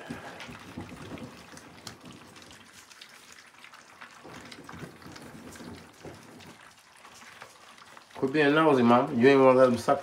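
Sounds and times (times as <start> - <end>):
puppies lapping and slurping: 0.0 - 10.0.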